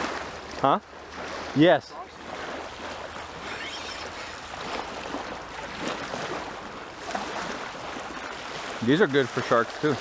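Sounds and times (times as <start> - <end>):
faint water splashes: 0.0 - 10.0
waves lapping at shoreline: 0.0 - 10.0.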